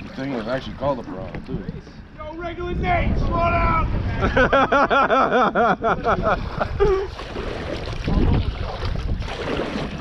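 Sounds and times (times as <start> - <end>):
water noise from kayaks: 0.0 - 2.4, 3.3 - 10.0
wind buffeting microphone: 0.0 - 10.0.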